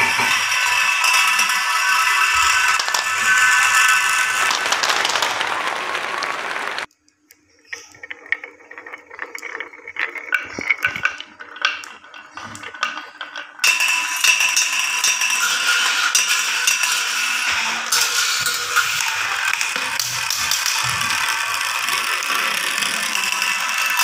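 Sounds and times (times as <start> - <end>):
marbles clattering down wooden track: 0.0 - 6.9, 7.6 - 24.0.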